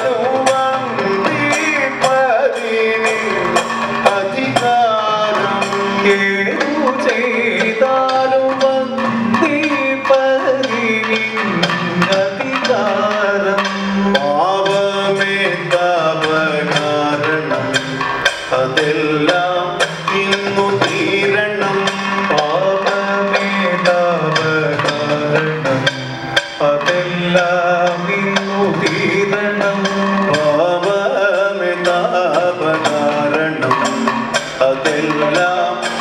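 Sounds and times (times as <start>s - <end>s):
drum beats: 0.0s - 36.0s.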